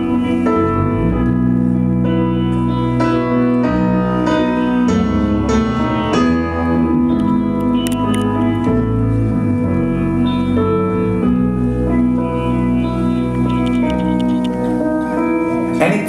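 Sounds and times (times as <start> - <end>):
keyboard chords: 0.0 - 16.0
live band playing instrumental: 0.0 - 16.0.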